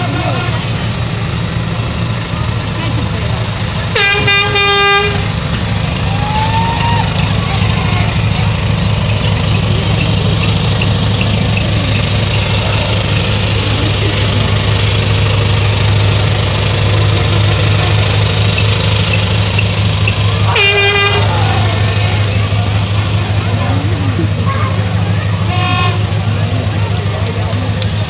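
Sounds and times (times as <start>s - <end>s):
loud low engine drone: 0.0s - 28.0s.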